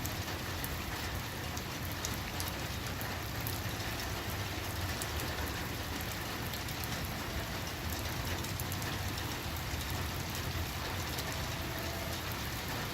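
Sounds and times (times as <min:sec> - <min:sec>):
rain pattering: 0:00.0 - 0:12.9.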